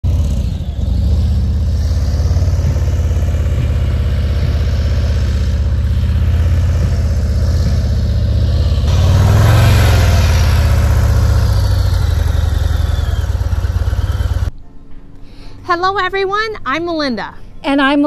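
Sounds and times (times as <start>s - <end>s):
motorcycle engine passing by: 0.0s - 14.5s.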